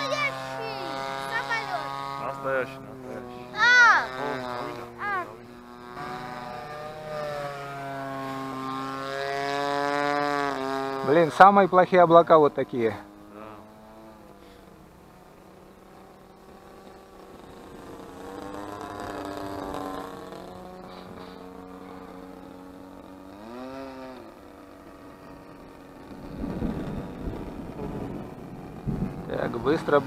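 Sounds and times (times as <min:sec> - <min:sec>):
model plane engine drone: 0:00.0 - 0:30.0.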